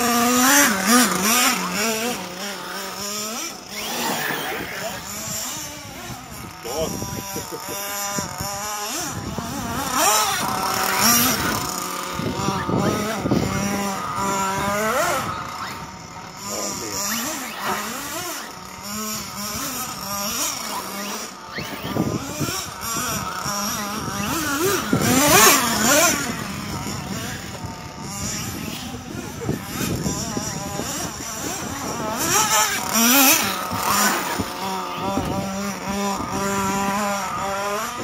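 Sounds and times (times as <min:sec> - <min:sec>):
model car motors revving: 0:00.0 - 0:38.0.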